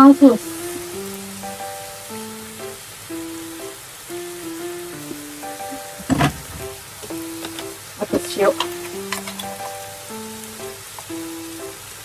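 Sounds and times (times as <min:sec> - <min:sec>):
background music of held notes: 0:00.0 - 0:12.0
meat sizzling in a frying pan: 0:00.0 - 0:12.0.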